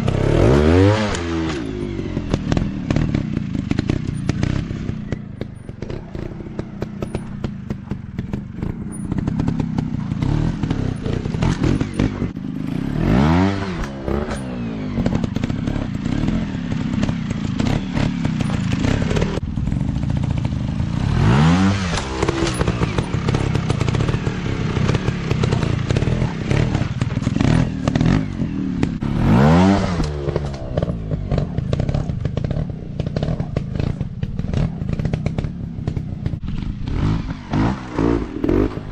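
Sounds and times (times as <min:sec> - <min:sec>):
dirt bike engines running: 0:00.0 - 0:38.9
dirt bike revving past: 0:05.8 - 0:38.9.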